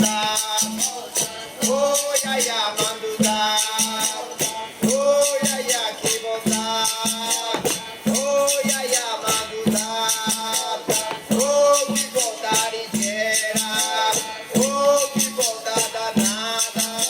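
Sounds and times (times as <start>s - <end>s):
hand percussion: 0.0s - 17.0s.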